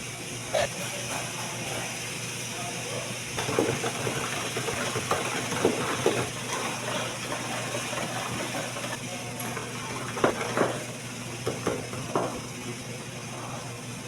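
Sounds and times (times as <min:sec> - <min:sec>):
kitchen machine hum and hiss: 0:00.0 - 0:14.0.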